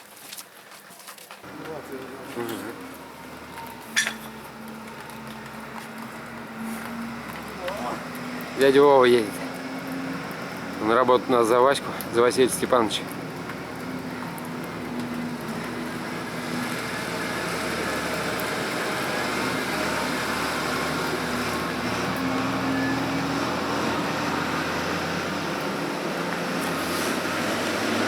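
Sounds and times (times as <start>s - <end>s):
vehicle engine humming: 1.4s - 28.0s.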